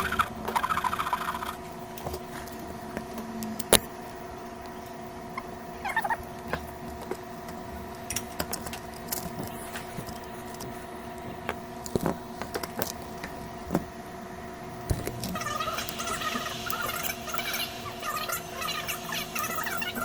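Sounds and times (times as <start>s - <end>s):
faint multi-tone hum: 0.0s - 20.0s.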